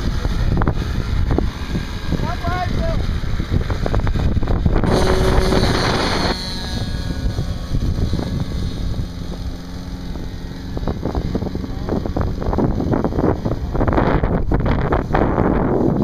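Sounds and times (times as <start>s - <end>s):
model plane propeller engine: 0.0s - 16.0s
wind on microphone: 0.0s - 16.0s.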